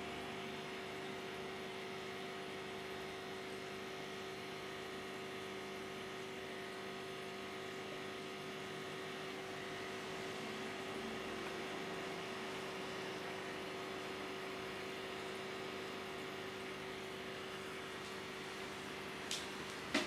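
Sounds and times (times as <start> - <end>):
aquarium equipment humming: 0.0 - 20.0.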